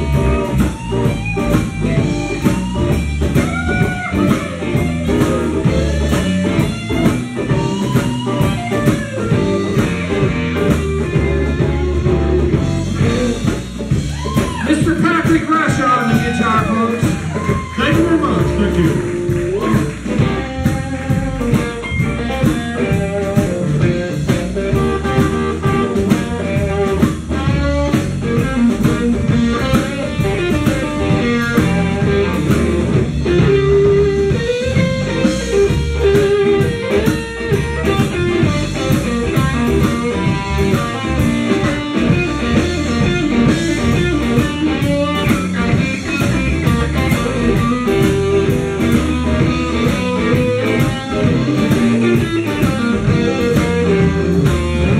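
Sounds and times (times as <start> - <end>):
drum kit: 0.0 - 54.9
electric guitar lines: 0.0 - 54.9.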